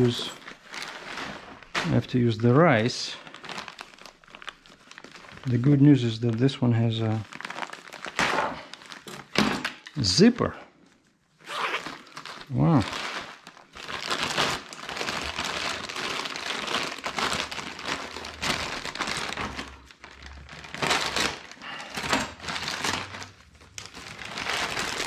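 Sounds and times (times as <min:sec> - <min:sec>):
bag of rice crinkling: 0:00.0 - 0:09.3, 0:11.7 - 0:25.0.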